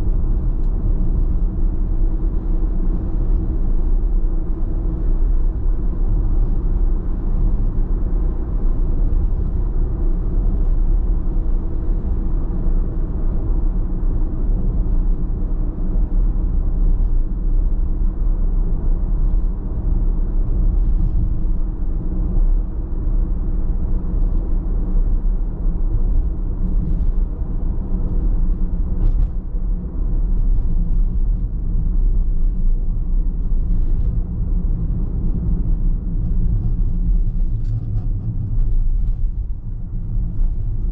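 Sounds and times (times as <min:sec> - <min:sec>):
engine and tyre road rumble: 0:00.0 - 0:40.9.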